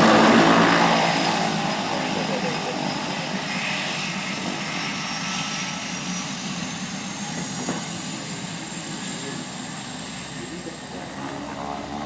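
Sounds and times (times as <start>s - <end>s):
propeller engines running: 0.0s - 12.0s.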